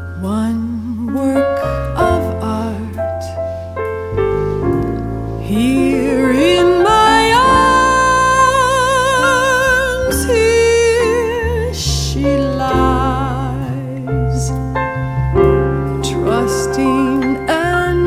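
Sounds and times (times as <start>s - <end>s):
bass: 0.0s - 18.0s
piano: 0.0s - 18.0s.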